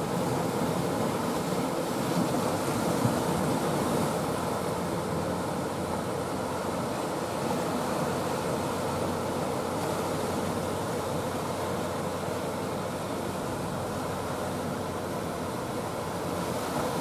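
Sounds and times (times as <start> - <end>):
choppy sea waves rushing: 0.0 - 17.0.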